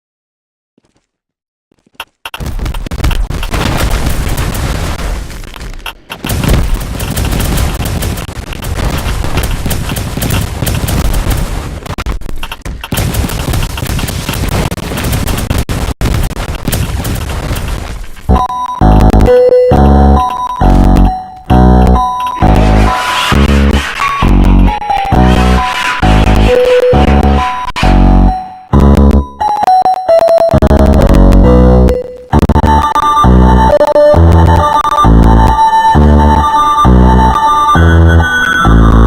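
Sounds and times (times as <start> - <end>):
dense rapid crackling: 2.0 - 29.6, 30.3 - 39.0.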